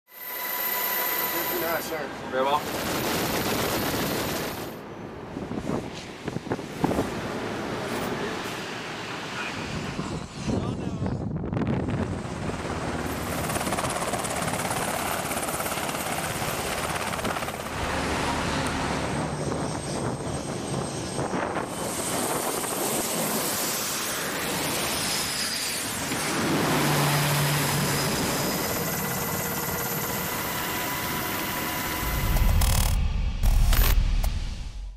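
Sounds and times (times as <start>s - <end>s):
helicopter rotor and turbine: 0.1s - 34.9s
turboprop aircraft engines: 0.4s - 34.9s.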